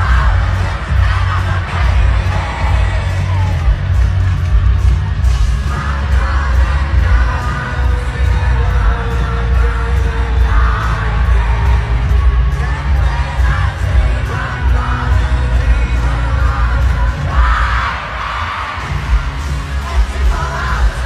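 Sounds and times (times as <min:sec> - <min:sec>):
man singing: 0:00.0 - 0:03.8, 0:05.5 - 0:18.2, 0:19.0 - 0:21.0
live band playing pop-rock: 0:00.0 - 0:18.1, 0:18.7 - 0:21.0.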